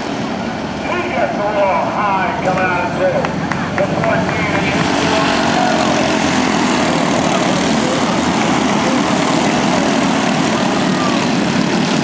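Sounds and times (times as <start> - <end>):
racing kart engines: 0.0 - 12.0.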